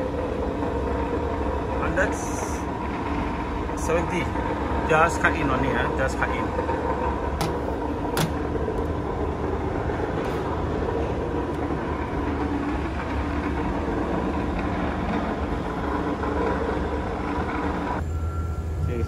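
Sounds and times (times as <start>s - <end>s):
road works machinery din: 0.0s - 19.0s.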